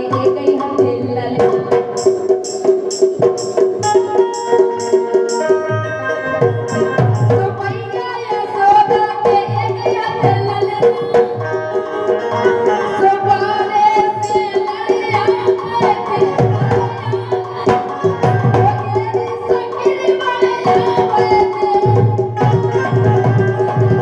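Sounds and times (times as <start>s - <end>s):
hand drums beating: 0.0s - 24.0s.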